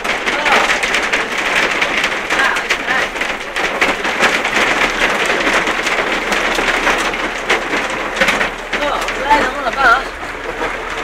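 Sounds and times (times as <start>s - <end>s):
hail and rain pelting hard surfaces: 0.0s - 11.0s.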